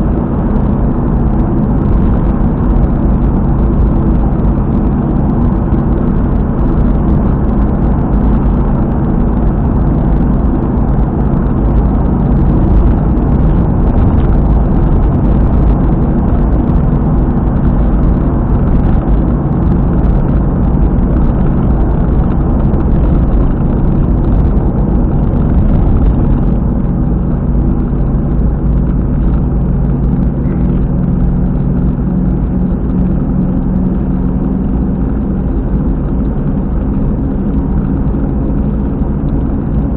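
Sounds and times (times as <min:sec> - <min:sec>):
car driving at speed: 0:00.0 - 0:39.9
wheel bearing drone and rumble: 0:00.0 - 0:39.9.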